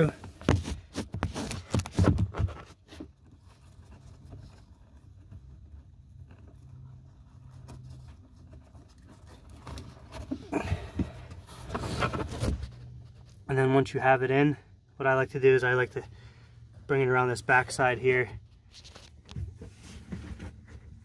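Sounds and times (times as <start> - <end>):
strap rustling and scraping: 0.0 - 13.6, 15.6 - 21.0.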